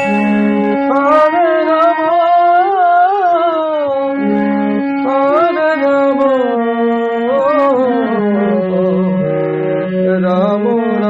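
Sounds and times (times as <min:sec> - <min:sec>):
held accompanying notes: 0:00.0 - 0:11.0
person singing devotional song: 0:00.0 - 0:11.0.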